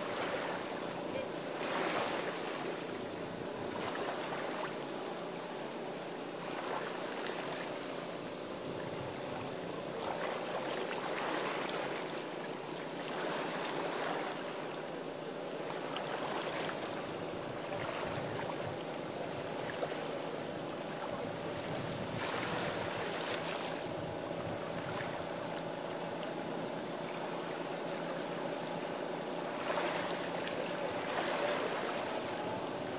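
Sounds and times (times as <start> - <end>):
steady low hum: 0.0 - 32.9
water lapping: 0.0 - 32.9.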